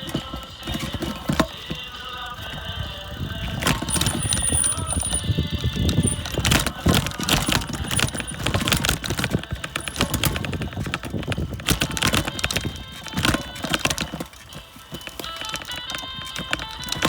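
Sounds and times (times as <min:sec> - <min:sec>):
bicycle rattling on rough trail: 0:00.0 - 0:17.0.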